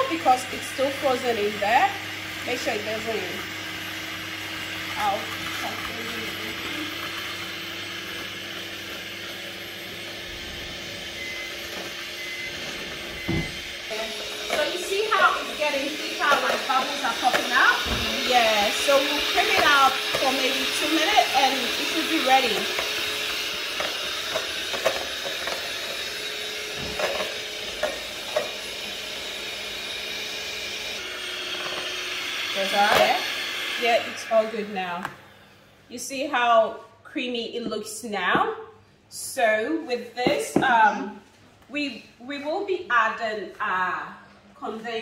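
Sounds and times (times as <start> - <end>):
electric hand mixer running: 0.0 - 36.5.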